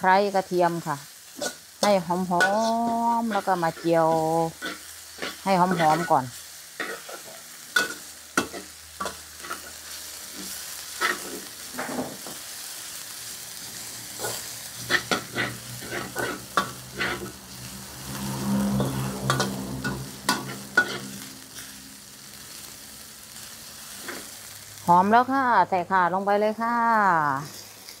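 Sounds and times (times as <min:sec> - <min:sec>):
frying sizzle: 0:00.0 - 0:28.0
metal spatula scraping a wok: 0:01.2 - 0:13.1, 0:13.7 - 0:24.6, 0:27.4 - 0:28.0.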